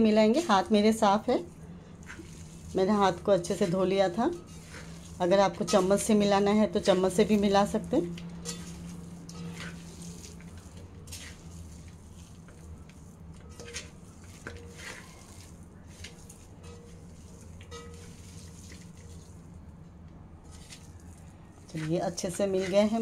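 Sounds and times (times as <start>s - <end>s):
hand squishing meat in bowl: 0.8s - 23.0s.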